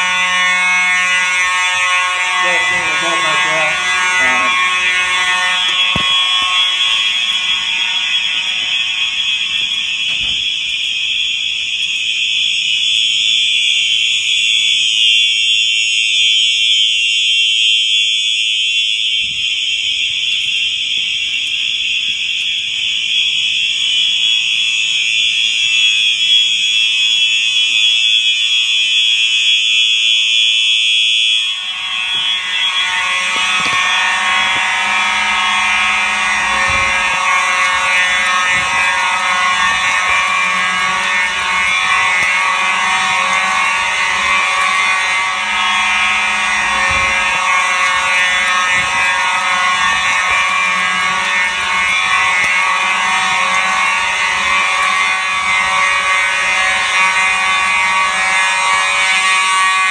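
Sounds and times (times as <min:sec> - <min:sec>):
lower alarm tones: 0:00.0 - 0:20.6, 0:23.4 - 0:59.9
fire alarm horns: 0:00.0 - 0:59.9.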